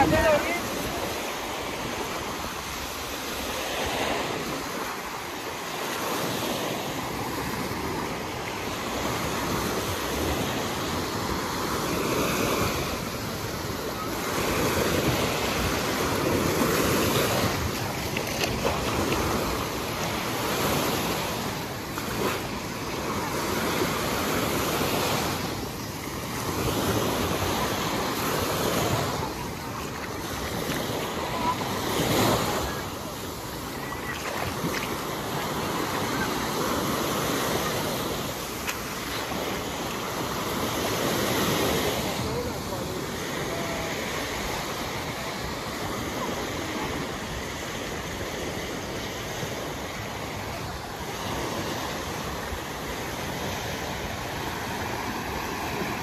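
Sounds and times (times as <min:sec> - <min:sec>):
small waves breaking on sand: 0:00.0 - 0:56.0.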